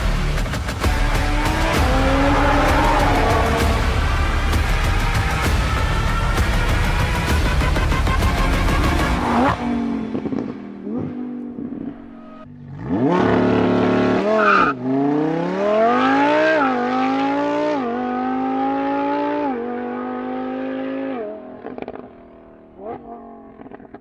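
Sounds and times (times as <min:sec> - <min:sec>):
sports car engine accelerating: 0:00.8 - 0:05.8, 0:06.8 - 0:24.0.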